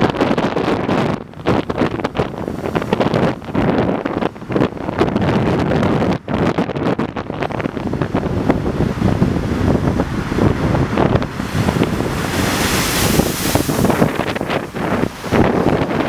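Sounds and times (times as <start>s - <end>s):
waves crashing against seawall: 0.0s - 16.0s
wind buffeting microphone: 0.0s - 16.0s.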